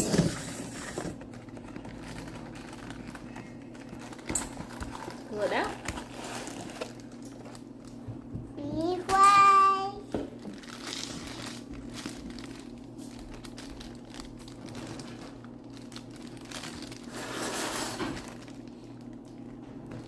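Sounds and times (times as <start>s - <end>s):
plastic bag crinkling: 0.0s - 8.0s, 9.7s - 20.0s.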